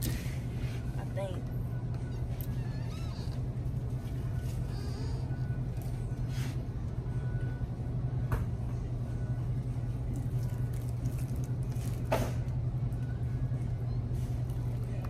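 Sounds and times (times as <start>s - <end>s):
freezer humming: 0.0s - 15.0s.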